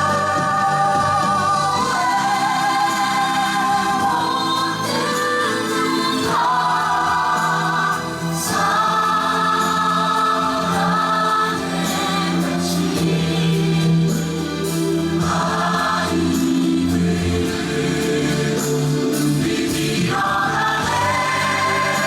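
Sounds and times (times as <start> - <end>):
choir singing sustained notes: 0.0 - 22.0
orchestra: 0.0 - 22.0.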